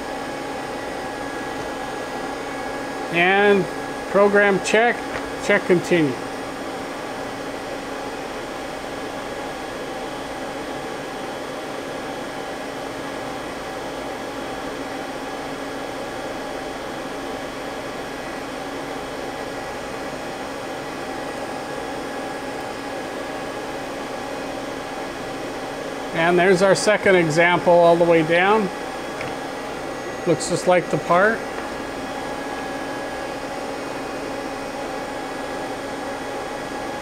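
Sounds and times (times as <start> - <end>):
machinery and cooling fans humming: 0.0 - 37.0.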